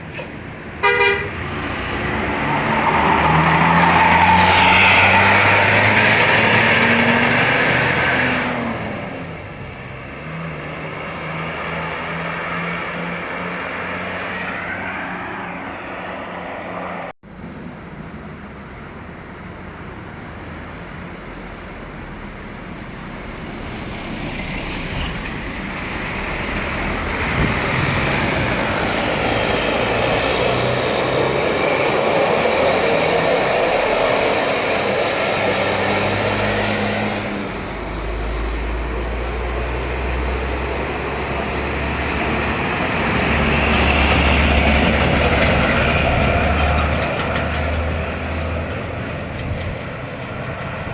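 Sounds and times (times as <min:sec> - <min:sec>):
large vehicle passing: 0:00.0 - 0:50.9.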